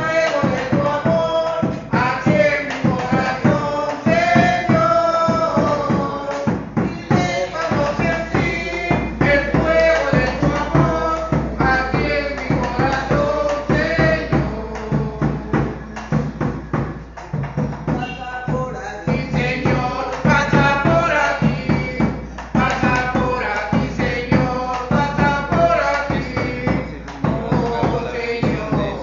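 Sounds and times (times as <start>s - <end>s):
bass drum beaten with stick: 0.0s - 29.0s
voices singing: 0.0s - 29.0s.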